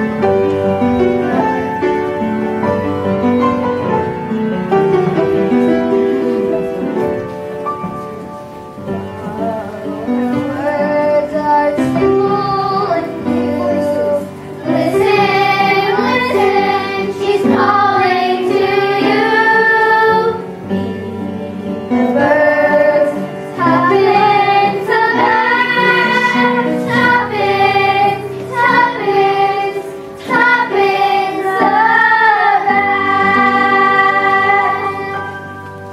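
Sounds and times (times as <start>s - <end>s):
instrumental accompaniment: 0.0s - 35.9s.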